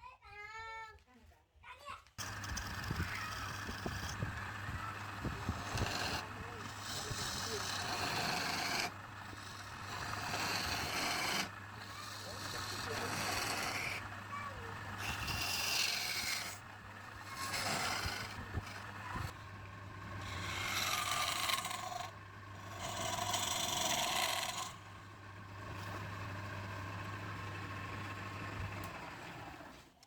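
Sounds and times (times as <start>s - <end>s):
lathe motor humming: 2.2s - 29.9s
tool scraping spinning wood: 2.2s - 30.0s.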